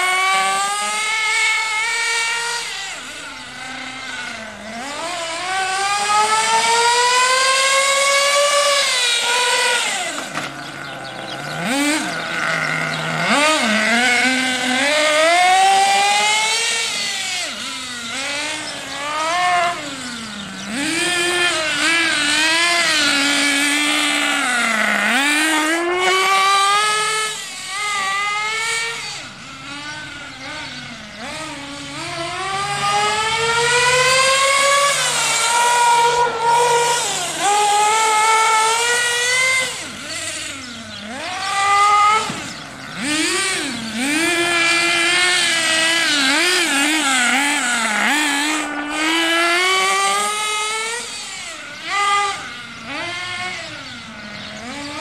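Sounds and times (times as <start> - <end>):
glow engine whining at high revs: 0.0 - 55.0.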